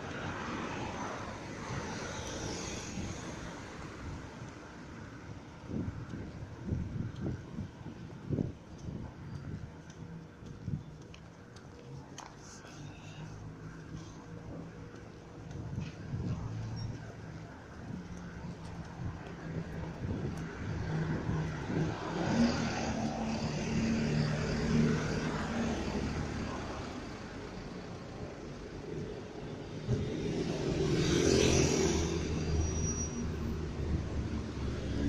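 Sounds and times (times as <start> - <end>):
city bus: 0.0 - 35.0
vehicles driving past: 0.0 - 35.0.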